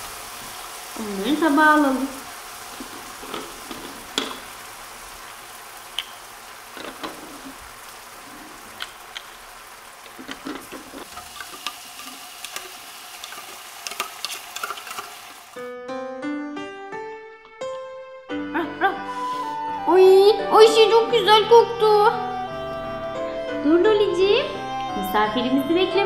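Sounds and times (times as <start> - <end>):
sizzling: 0.0 - 15.7, 19.0 - 26.0.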